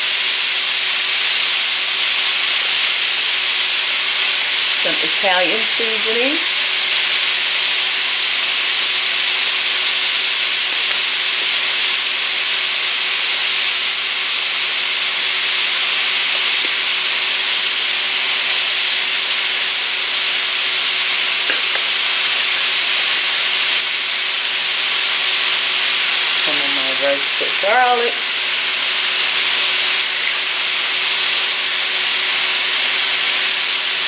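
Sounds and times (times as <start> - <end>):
meat sizzling in a skillet: 0.0 - 34.0.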